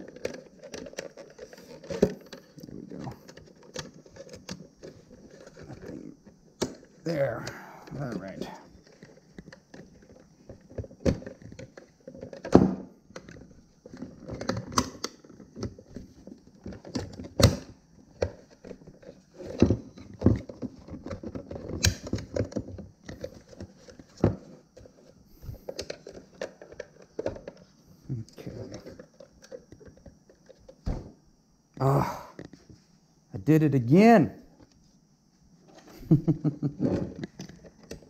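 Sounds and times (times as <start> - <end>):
plastic parts clicking and knocking: 0.0 - 27.7, 28.5 - 31.1, 36.7 - 38.0.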